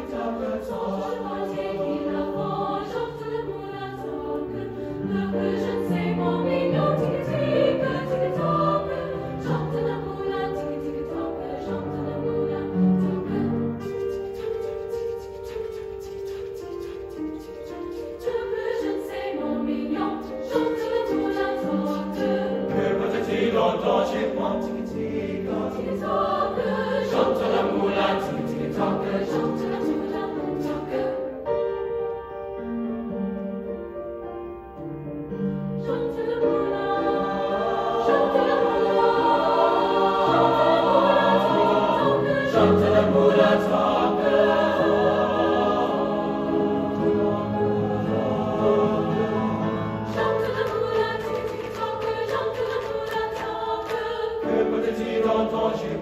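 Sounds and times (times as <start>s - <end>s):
mixed choir singing: 0.0s - 31.6s, 35.5s - 56.0s
grand piano accompaniment: 0.0s - 56.0s.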